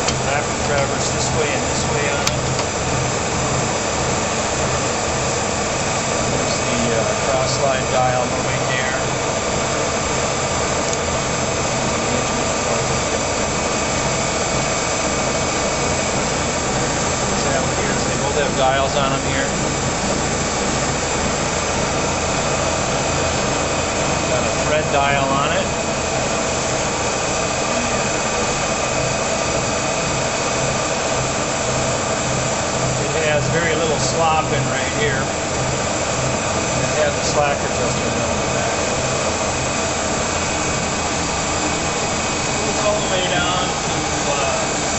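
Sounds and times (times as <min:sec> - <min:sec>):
faint whining gear tones: 0:00.0 - 0:44.9
lathe mechanical whir: 0:00.0 - 0:44.9.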